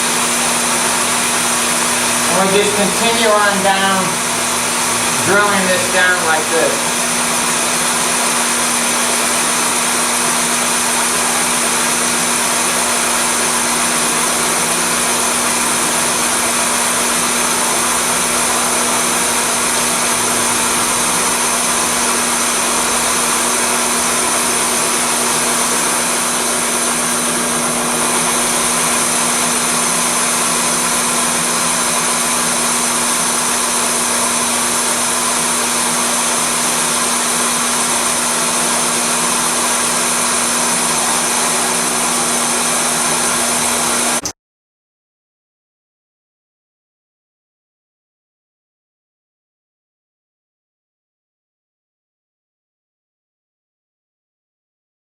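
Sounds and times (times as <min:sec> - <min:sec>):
drill press motor hum: 0:00.0 - 0:44.3.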